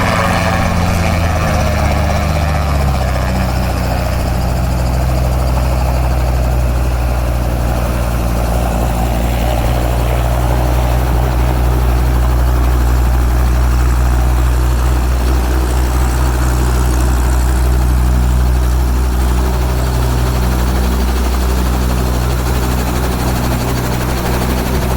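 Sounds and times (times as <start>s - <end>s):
helicopter engine and rotors drone: 0.0s - 24.9s.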